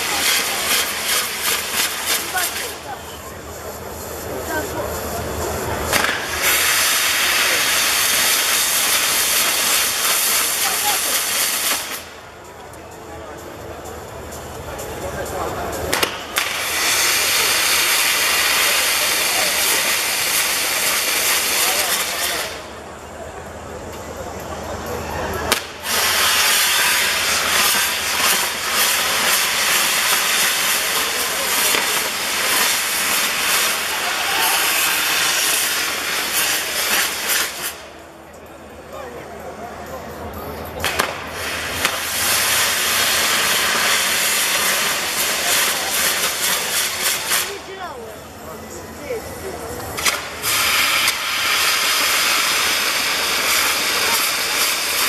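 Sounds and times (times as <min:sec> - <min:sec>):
firework sparks hissing: 0:00.0 - 0:23.4, 0:25.0 - 0:38.2, 0:40.8 - 0:55.0.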